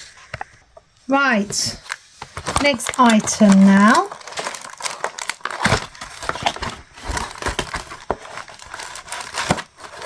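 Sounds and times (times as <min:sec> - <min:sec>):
packaging rustling and crinkling: 0:01.3 - 0:10.0.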